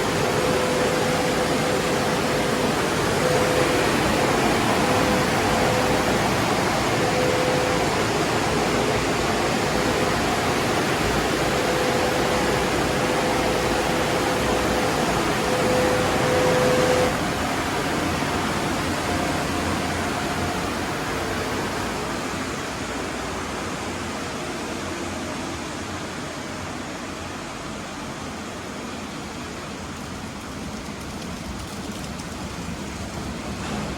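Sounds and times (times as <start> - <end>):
car wash equipment hissing: 0.0 - 25.0, 27.0 - 33.9
faint hum: 0.0 - 33.9.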